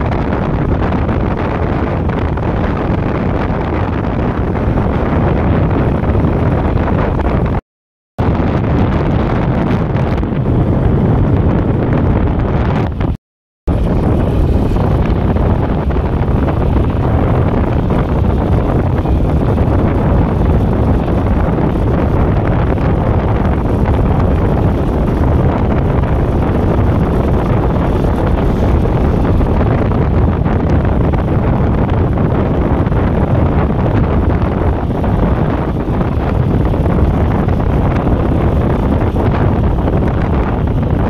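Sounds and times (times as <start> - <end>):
wind buffeting microphone: 0.0 - 7.6, 8.2 - 41.0.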